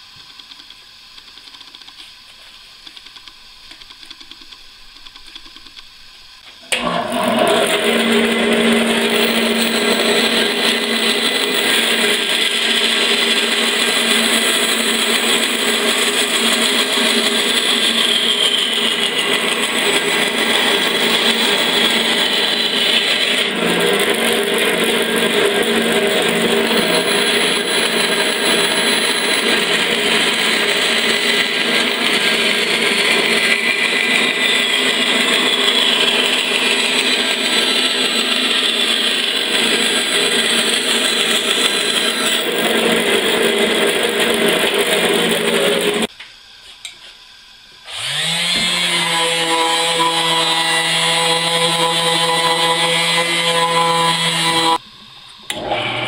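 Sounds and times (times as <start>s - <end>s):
band saw cutting wood: 6.7s - 46.1s, 47.9s - 54.8s.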